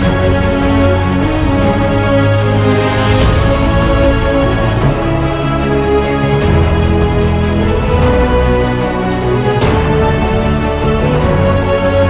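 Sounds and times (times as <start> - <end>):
background music with sustained tones: 0.0 - 12.0.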